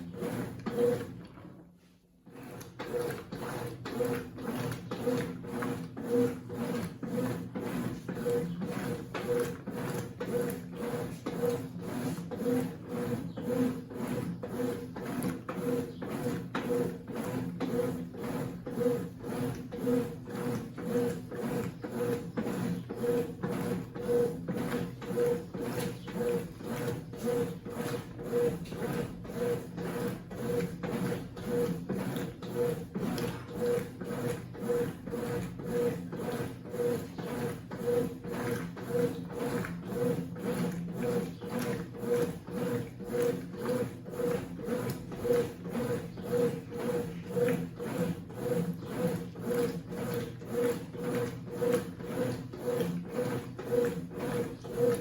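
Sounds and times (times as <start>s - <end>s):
washing machine agitating: 0.0s - 55.0s.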